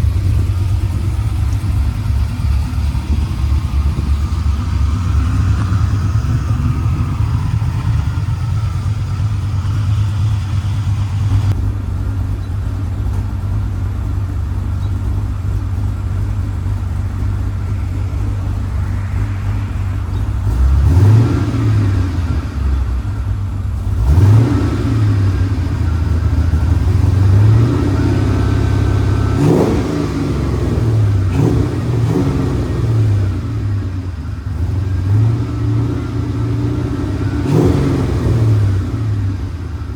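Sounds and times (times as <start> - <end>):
engine revving: 0.0 - 11.8, 15.4 - 39.9
engine idling with choppy exhaust: 0.0 - 39.9.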